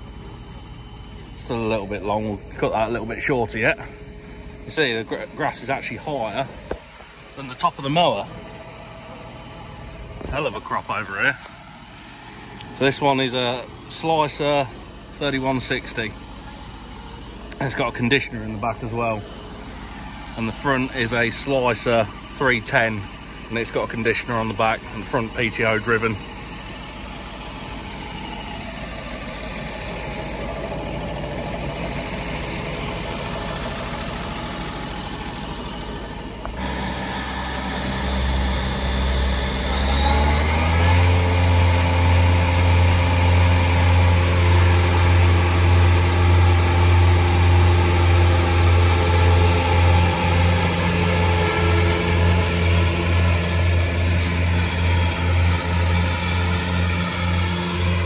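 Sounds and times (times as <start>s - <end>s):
tractor running with disc mowers: 0.0s - 58.0s.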